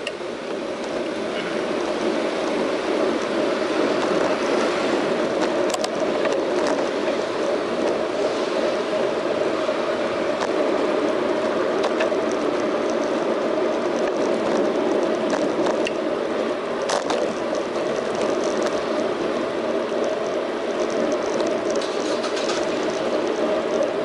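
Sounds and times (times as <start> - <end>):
bicycle clicks and knocks: 0.0 - 24.0
road noise from bicycle: 0.0 - 24.0
rushing wind: 0.0 - 24.0.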